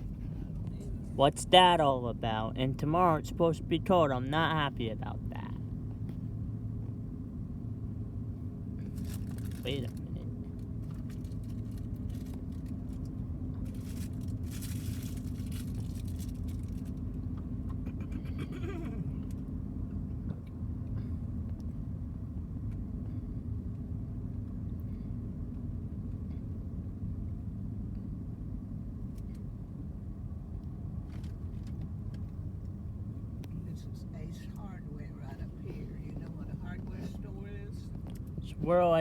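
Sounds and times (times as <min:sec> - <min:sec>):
car interior engine and road rumble: 0:00.0 - 0:39.0.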